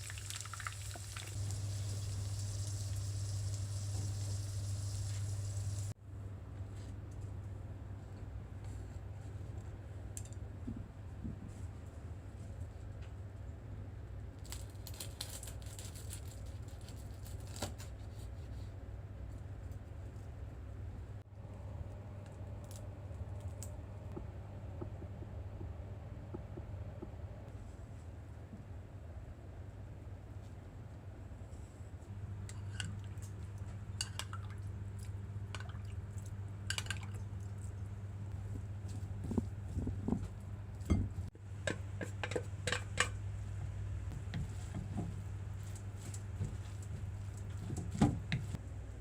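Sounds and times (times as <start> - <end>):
low steady hum: 0.0 - 15.0, 18.1 - 49.0.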